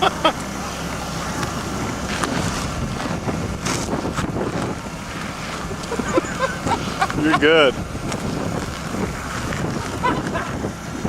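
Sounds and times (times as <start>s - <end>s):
car engine under load: 0.0s - 11.0s
wheels spinning in snow: 0.0s - 11.0s
wind buffeting microphone: 0.0s - 11.0s.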